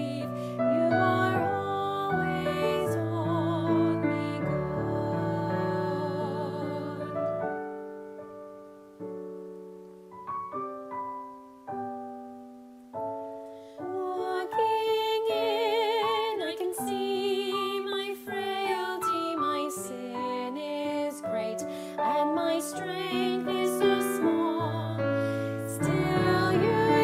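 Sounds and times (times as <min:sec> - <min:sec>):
slow gentle piano music: 0:00.0 - 0:27.0.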